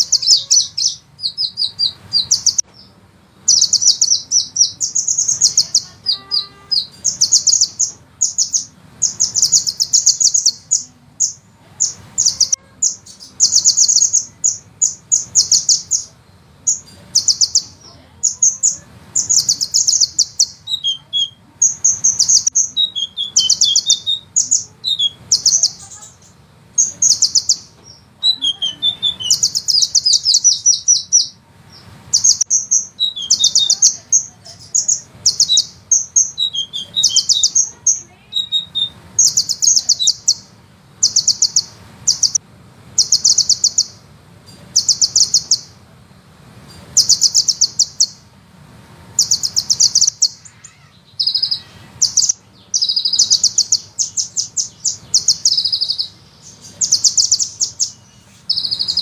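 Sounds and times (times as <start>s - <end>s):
bird singing high trills: 0.0s - 42.4s, 43.0s - 45.8s, 46.7s - 48.3s, 49.2s - 59.0s.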